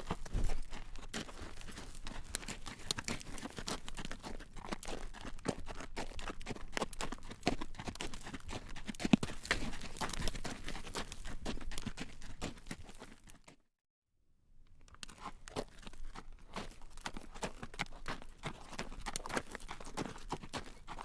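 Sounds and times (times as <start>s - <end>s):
horse hooves clacking on road: 0.0s - 13.4s, 15.1s - 21.0s.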